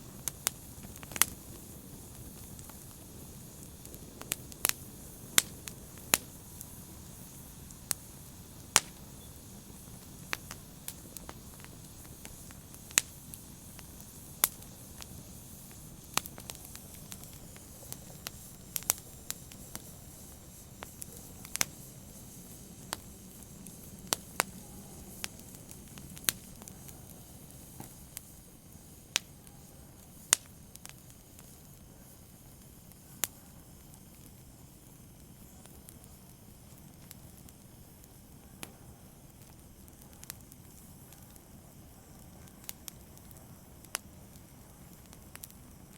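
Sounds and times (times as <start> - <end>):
open fire crackling: 0.0 - 45.9.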